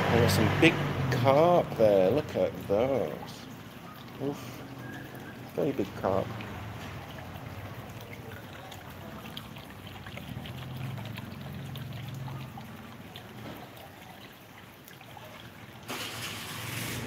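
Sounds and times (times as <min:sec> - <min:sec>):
water bubbling in a fountain: 0:00.0 - 0:17.0
water trickling into a pond: 0:00.0 - 0:17.0.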